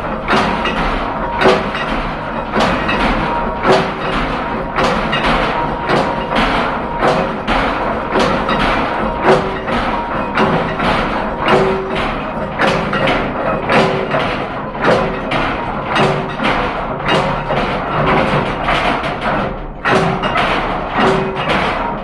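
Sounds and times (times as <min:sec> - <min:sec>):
music with percussive beat: 0:00.0 - 0:22.0.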